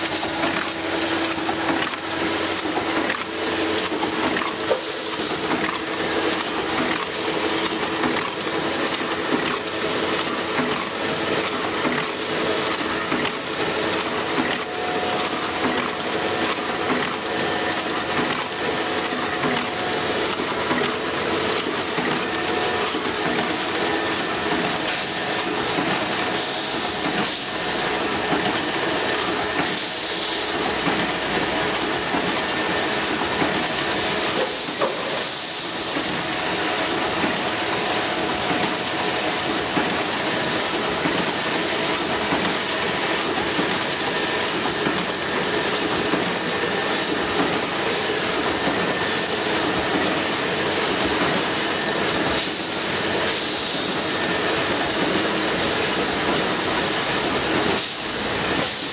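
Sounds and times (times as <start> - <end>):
machinery clatter: 0.0 - 58.9
steady machine hum: 0.0 - 58.9.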